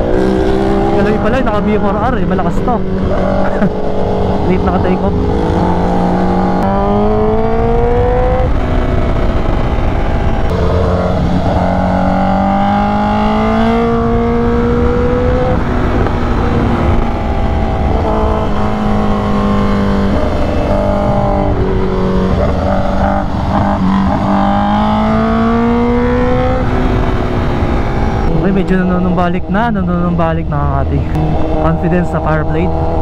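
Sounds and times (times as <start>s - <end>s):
motorcycle engine running hard: 0.0s - 33.0s.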